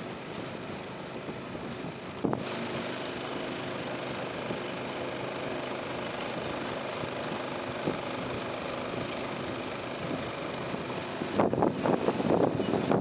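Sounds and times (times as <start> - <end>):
small boat engine running: 0.0 - 13.0
water rushing past hull: 0.0 - 13.0.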